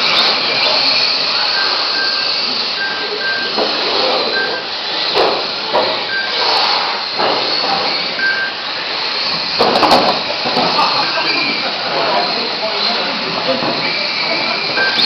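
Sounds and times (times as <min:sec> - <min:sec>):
toy car motors whining: 0:00.0 - 0:15.0.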